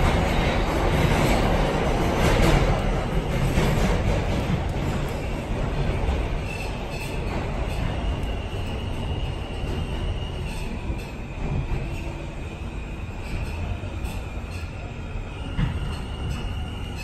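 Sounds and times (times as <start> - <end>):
subway car rumble: 0.0 - 17.0.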